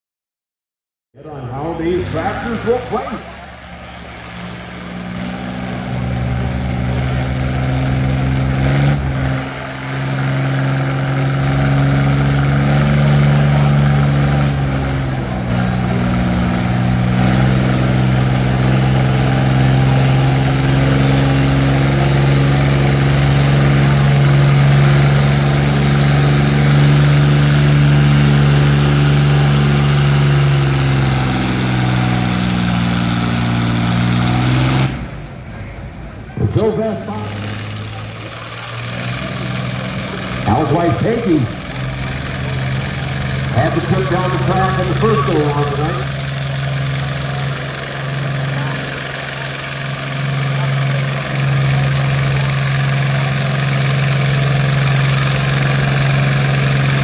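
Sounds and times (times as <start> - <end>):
tractor engine under full load: 1.2 - 57.0.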